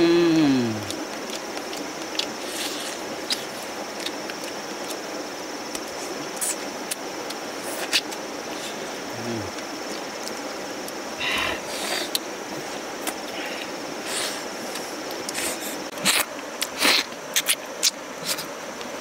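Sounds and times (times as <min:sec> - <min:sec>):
even hiss: 0:00.0 - 0:01.1, 0:02.2 - 0:19.0
people eating with hands: 0:00.0 - 0:19.0.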